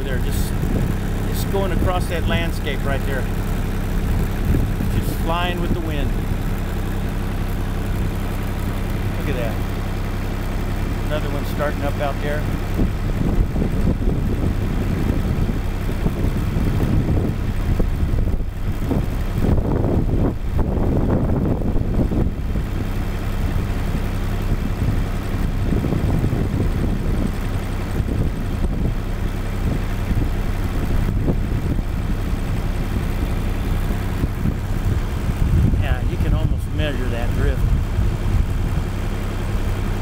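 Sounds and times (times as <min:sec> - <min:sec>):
wind rumbling on microphone: 0:00.0 - 0:10.0, 0:10.6 - 0:40.0
engine idling with low hum: 0:00.0 - 0:40.0.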